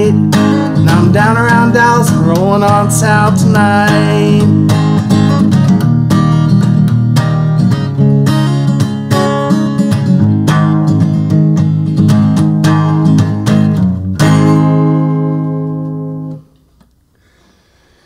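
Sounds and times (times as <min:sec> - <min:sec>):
acoustic guitar strumming: 0:00.0 - 0:16.6.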